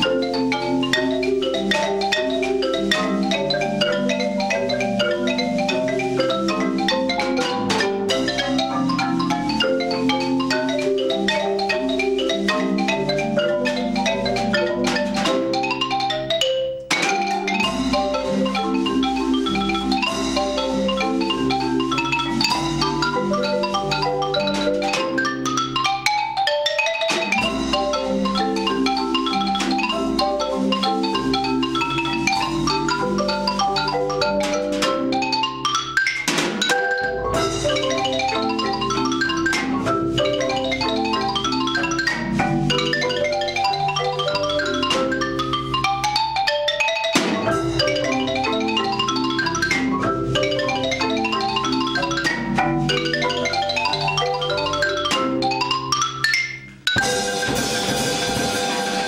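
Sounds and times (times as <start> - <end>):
marimba chords: 0.0 - 59.0
xylophone melody: 0.0 - 59.0.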